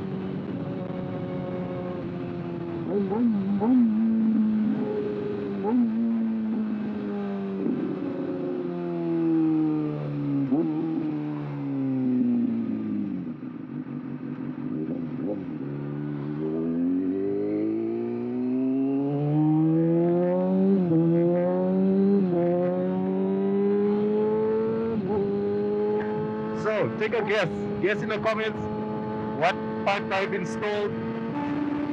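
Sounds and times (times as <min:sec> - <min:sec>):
motorcycle engine: 0:00.0 - 0:31.9.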